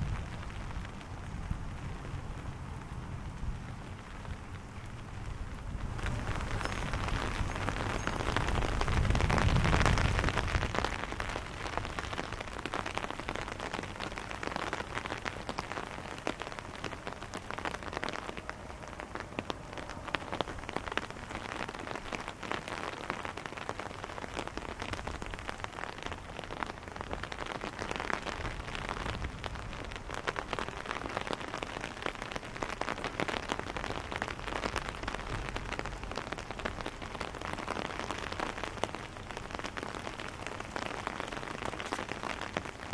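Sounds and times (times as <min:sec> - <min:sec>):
rain pattering on paving stones: 0:00.0 - 0:42.9.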